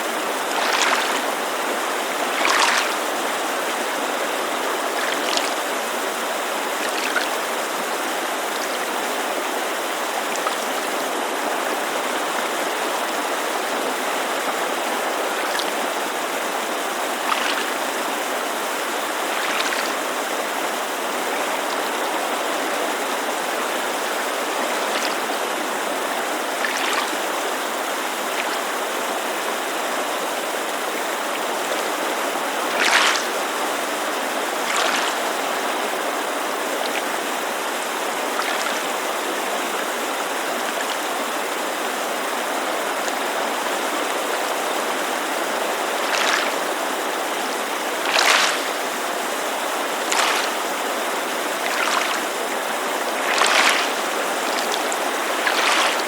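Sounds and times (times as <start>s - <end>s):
creek rushing: 0.0s - 56.0s
small waves lapping: 0.0s - 56.0s.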